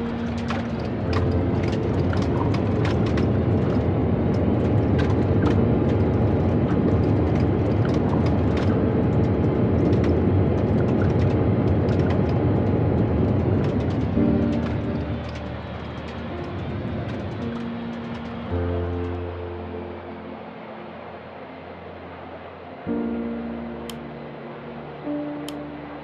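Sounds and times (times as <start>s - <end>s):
airliner landing rumble: 0.0s - 26.0s.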